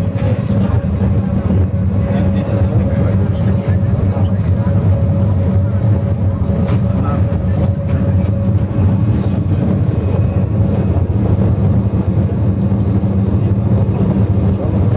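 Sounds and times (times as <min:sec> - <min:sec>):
electric train motor hum: 0:00.0 - 0:14.9.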